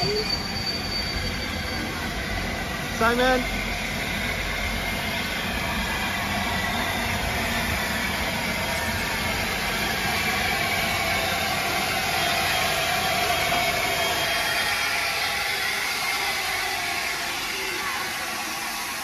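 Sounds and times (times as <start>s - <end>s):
trains rumbling and hissing: 0.0s - 19.0s.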